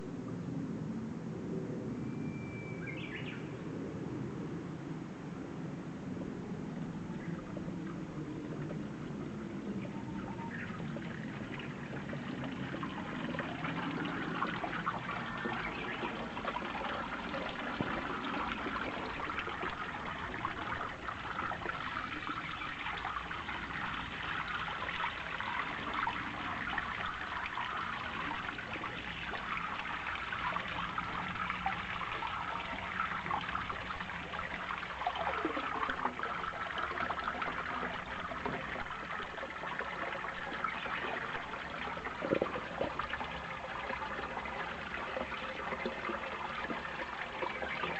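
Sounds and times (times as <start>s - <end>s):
spring water trickling: 6.8s - 47.9s.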